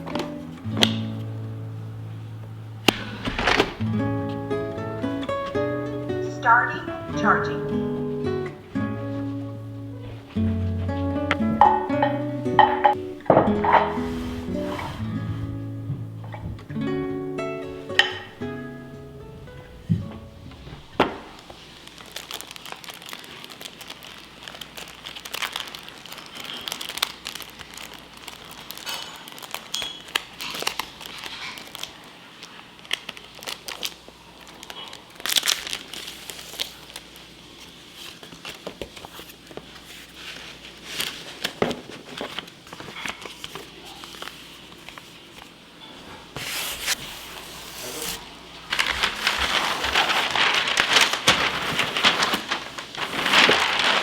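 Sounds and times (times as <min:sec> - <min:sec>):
crinkling and rustling handling: 0:00.0 - 0:08.2, 0:17.7 - 0:54.0.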